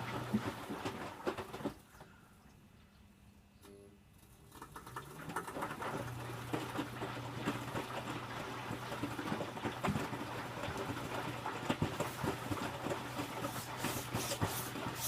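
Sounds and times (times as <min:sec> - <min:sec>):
wet laundry tumbling and splashing: 0:00.0 - 0:01.8, 0:04.5 - 0:15.0
washing machine motor whine and hum: 0:00.0 - 0:01.9, 0:03.6 - 0:15.0.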